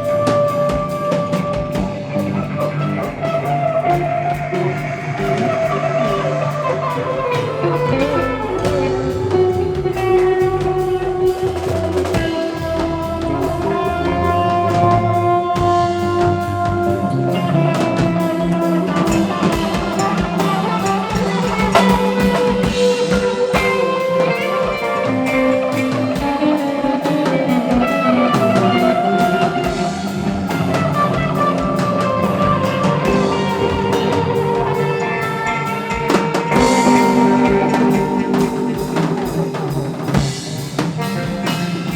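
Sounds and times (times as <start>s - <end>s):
bass guitar: 0.0s - 41.9s
drum kit: 0.0s - 41.9s
electric guitar lines: 0.0s - 41.9s.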